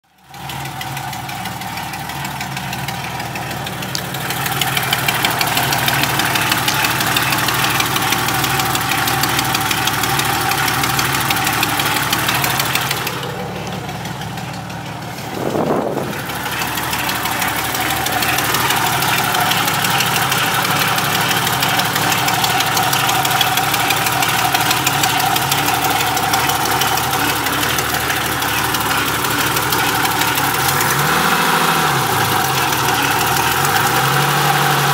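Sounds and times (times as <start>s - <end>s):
engine running: 0.0s - 34.9s
fast regular engine ticking: 0.0s - 34.9s.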